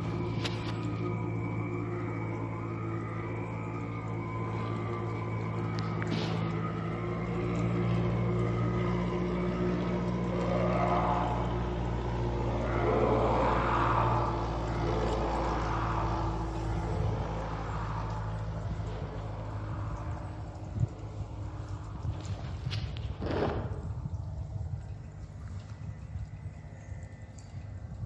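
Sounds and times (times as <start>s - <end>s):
low drone of held tones: 0.0s - 28.0s.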